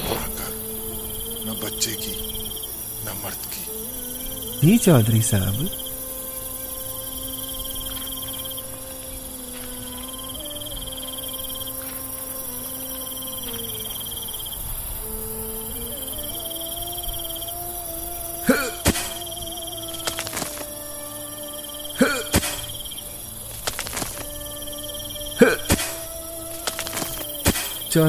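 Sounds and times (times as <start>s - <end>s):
crickets chirping: 0.0s - 28.0s
low music drone: 0.0s - 28.0s.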